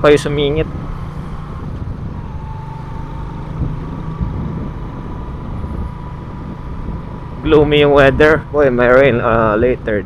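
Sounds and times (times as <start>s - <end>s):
motorcycle engine and wind rumble: 0.0s - 10.0s.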